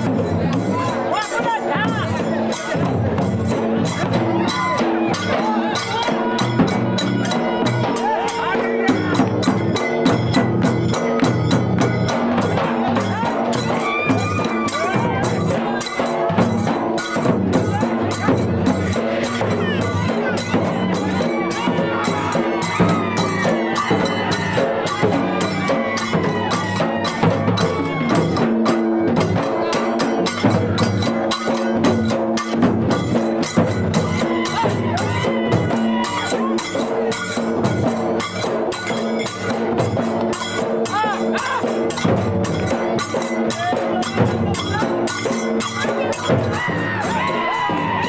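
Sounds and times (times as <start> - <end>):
fast drumbeat: 0.0 - 48.0.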